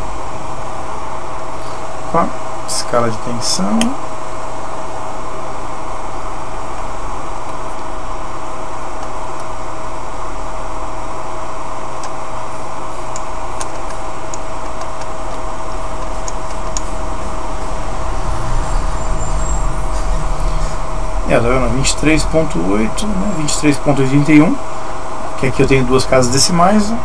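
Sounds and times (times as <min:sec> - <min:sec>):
mid-pitched whine: 0:00.0 - 0:27.0.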